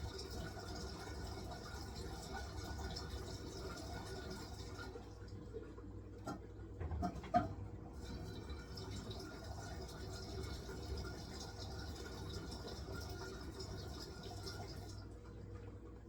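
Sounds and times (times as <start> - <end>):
low machine hum: 0.0 - 16.0
water rushing into washing machine: 0.0 - 16.0.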